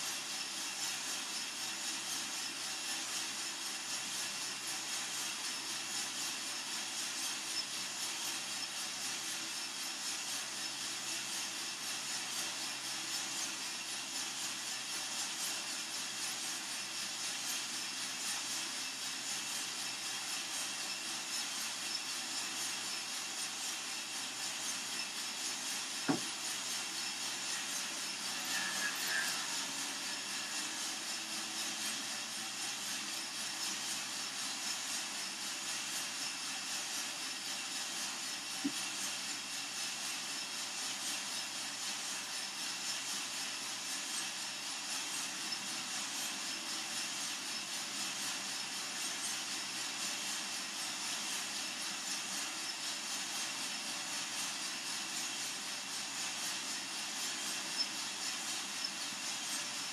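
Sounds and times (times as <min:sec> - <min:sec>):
coffee roaster fan rushing: 0:00.0 - 0:59.9
coffee beans tumbling in drum: 0:00.1 - 0:59.9.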